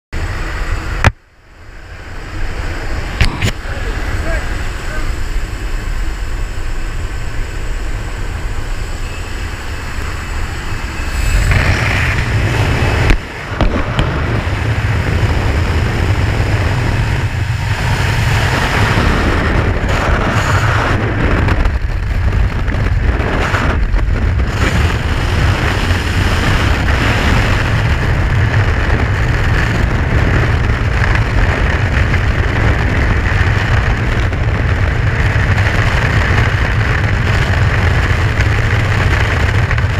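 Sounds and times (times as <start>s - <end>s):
airplane engine: 0.1s - 39.9s
freefall wind blasting: 0.2s - 39.9s.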